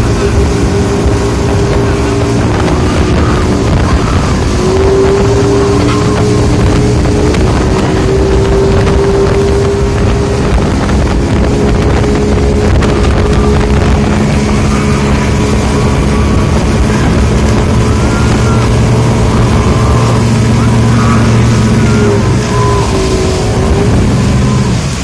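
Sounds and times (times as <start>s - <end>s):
boat motor running: 0.0s - 25.0s
wind buffeting microphone: 0.0s - 25.0s.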